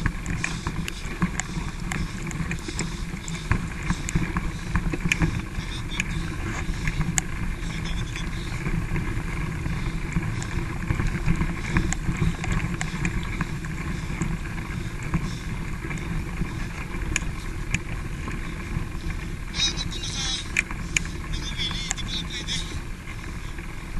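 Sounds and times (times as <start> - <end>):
bike rattling over dirt trail: 0.0 - 23.9
wind rumble on microphone: 0.0 - 23.9.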